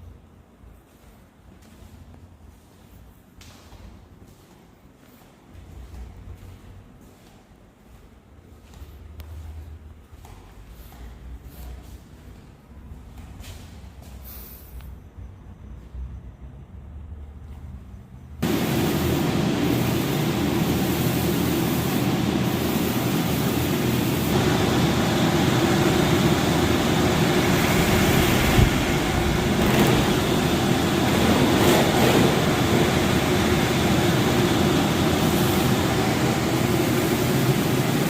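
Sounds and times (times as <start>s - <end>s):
air conditioner blowing air: 0.0s - 38.0s.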